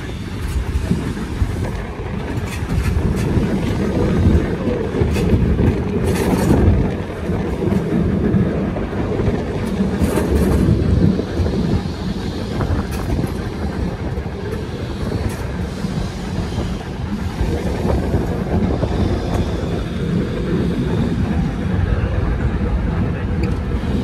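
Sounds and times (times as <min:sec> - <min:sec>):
tram rumble: 0:00.0 - 0:24.0
wheels clicking on rails: 0:00.0 - 0:24.0.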